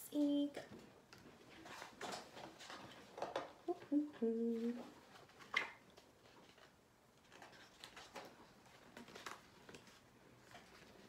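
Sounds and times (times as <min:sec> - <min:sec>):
book pages rustling: 0:00.7 - 0:03.6, 0:04.5 - 0:11.0.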